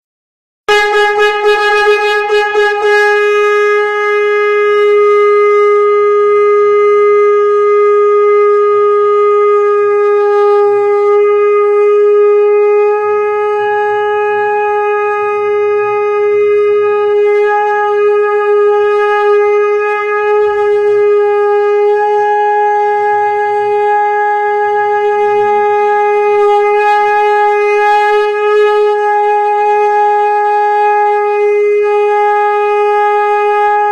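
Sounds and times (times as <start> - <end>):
conch shell blown: 0.7 - 33.9.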